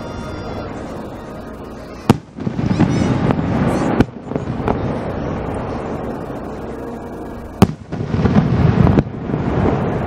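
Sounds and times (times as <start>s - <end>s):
firework crackle: 0.0s - 10.0s
fireworks rumble: 0.0s - 10.0s.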